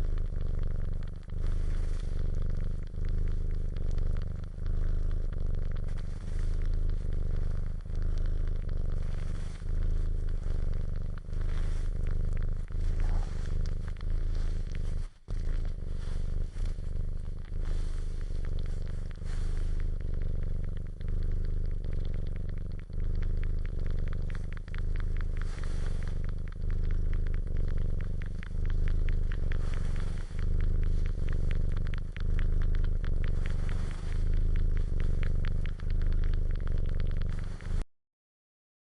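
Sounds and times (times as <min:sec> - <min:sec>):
cat suckling clicks: 0:00.0 - 0:37.8
cat purring: 0:00.0 - 0:37.9.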